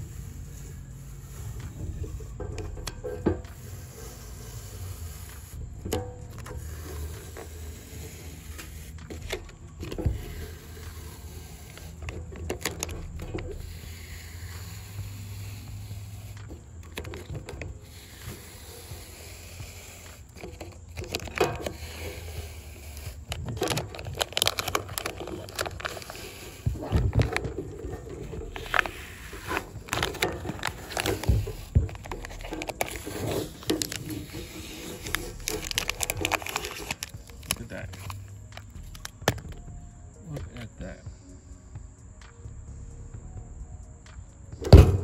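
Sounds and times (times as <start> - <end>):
hand rubbing against metal can: 0.0 - 39.4
sticker peeling off metal: 0.0 - 39.6.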